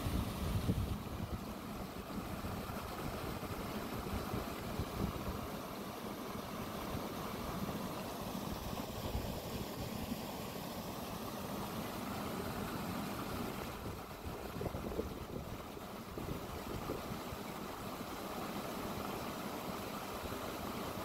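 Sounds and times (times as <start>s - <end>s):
water gushing from pipes: 0.0s - 21.0s.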